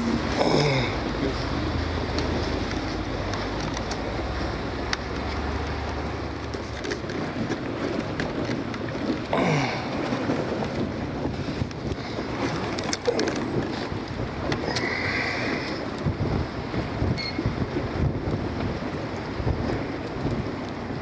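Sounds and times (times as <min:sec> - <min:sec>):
low boat engine hum: 0:00.0 - 0:21.0
wind buffeting microphone: 0:00.0 - 0:21.0.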